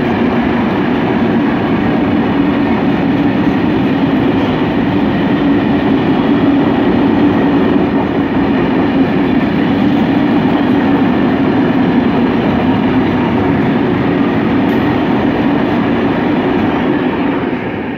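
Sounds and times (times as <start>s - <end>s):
freight train rolling past: 0.0s - 17.9s.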